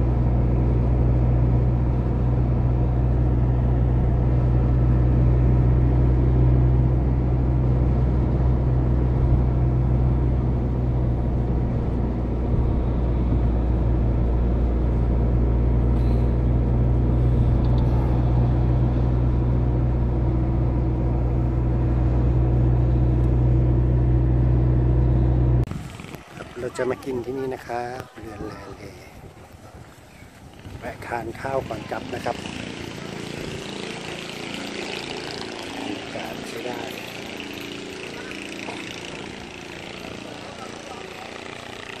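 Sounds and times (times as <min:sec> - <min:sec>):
car engine and road drone: 0:00.0 - 0:27.1, 0:30.9 - 0:42.0.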